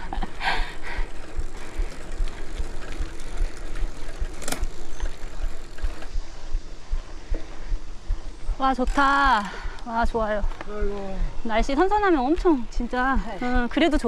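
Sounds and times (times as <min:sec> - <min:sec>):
bike rolling and rattling: 0:00.0 - 0:14.0.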